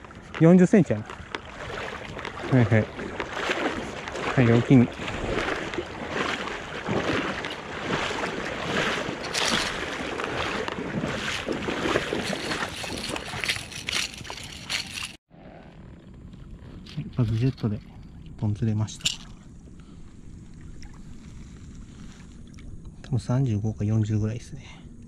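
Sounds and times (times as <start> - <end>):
water splashing and sloshing: 0.0 - 15.2, 16.8 - 22.9.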